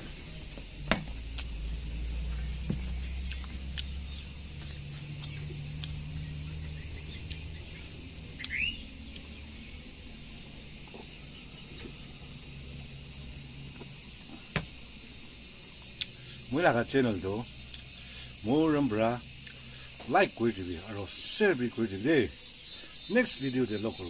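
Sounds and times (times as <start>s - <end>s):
low hum: 0.0s - 22.9s
high insect drone: 0.0s - 24.0s.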